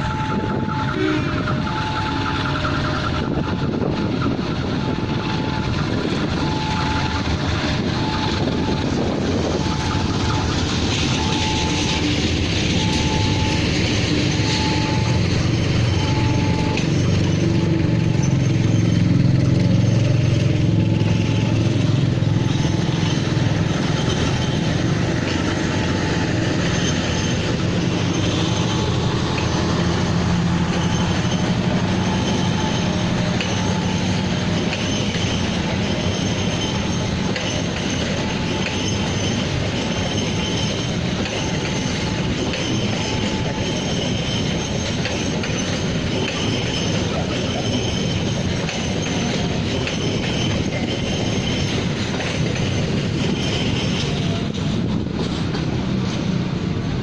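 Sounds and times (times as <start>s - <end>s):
faint high wheel squeal: 0.0s - 55.4s
diesel locomotive engine hum: 0.0s - 57.0s
train wheels rushing on rails: 0.0s - 57.0s.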